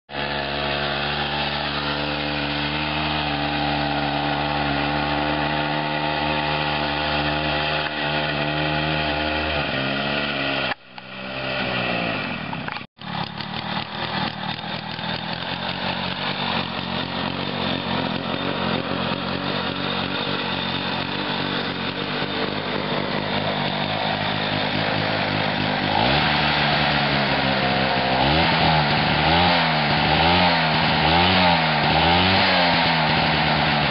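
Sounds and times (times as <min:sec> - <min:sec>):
two-stroke engine running: 0:00.1 - 0:33.9.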